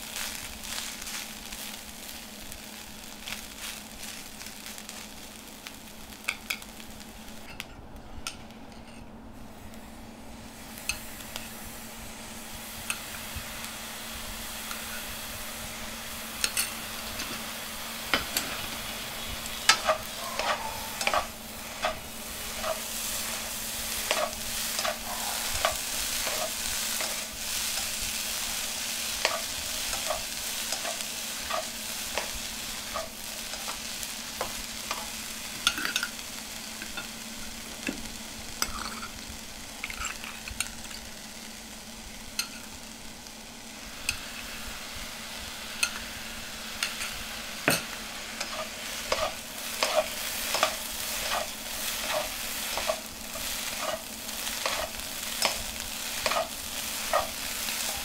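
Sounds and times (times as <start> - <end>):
meat sizzling in a wok: 0.0 - 8.6, 9.3 - 58.0.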